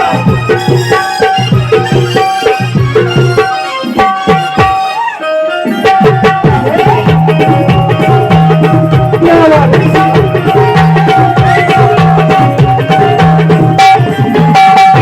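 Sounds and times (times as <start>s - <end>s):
hand drum: 0.0s - 15.0s
held melodic notes: 0.0s - 15.0s.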